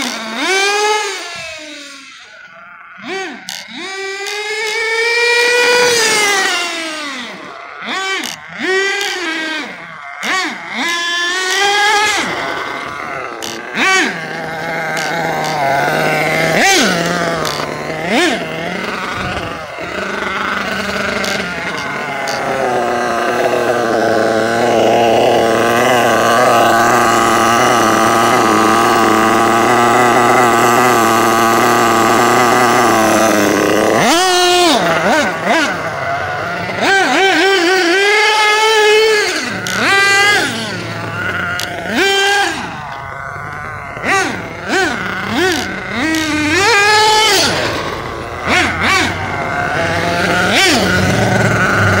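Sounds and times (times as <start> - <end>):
model engine idling: 0.0 - 52.0.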